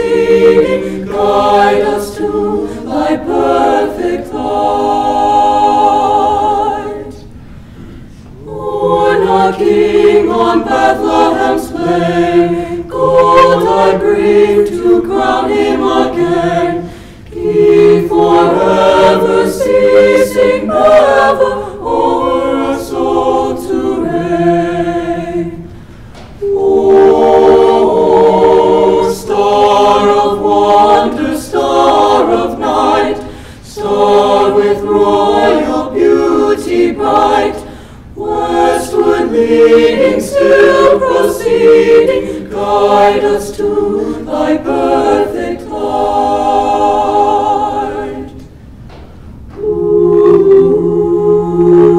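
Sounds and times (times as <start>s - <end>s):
choir singing a cappella: 0.0s - 51.9s.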